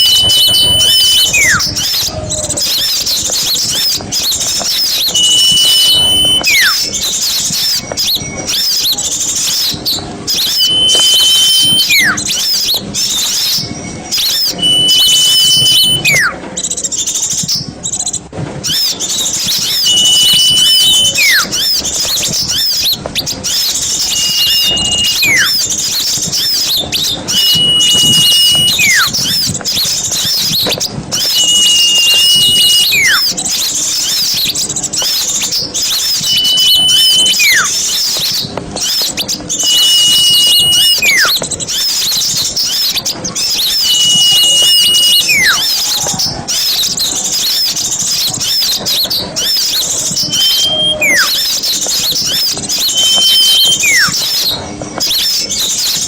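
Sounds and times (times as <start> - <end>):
whistled note with falling glide: 0.0 - 4.0, 4.6 - 9.0, 10.3 - 16.4, 18.8 - 34.4, 35.1 - 42.1, 42.7 - 45.9, 49.4 - 56.0
songbirds chirping and twittering: 0.0 - 56.0.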